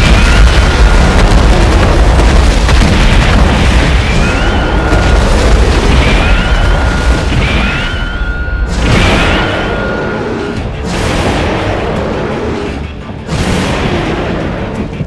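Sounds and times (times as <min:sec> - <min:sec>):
heavy booming explosions: 0:00.0 - 0:15.0.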